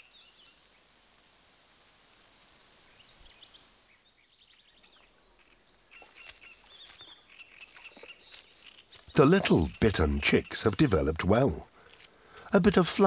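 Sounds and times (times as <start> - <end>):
small birds chirping: 0.0 - 0.9, 2.5 - 13.0.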